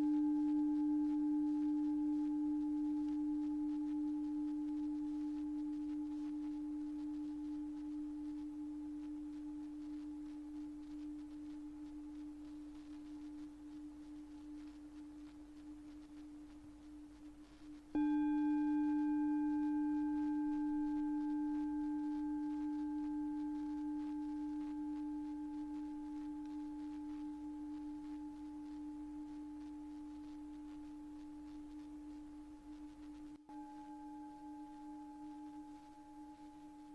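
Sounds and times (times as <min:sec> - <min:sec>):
singing bowl ringing: 0:00.0 - 0:36.9.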